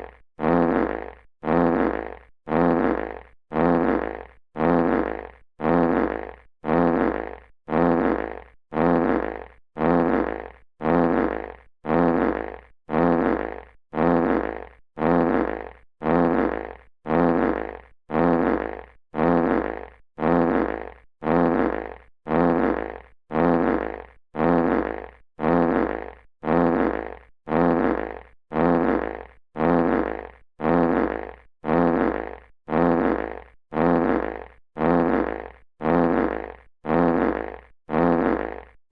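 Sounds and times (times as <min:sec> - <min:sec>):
fart sound effect: 0:00.0 - 0:38.8.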